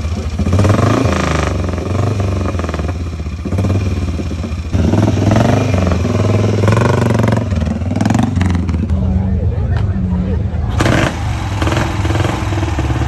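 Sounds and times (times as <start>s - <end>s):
motorcycle engine revving: 0.0s - 9.2s, 10.6s - 13.0s.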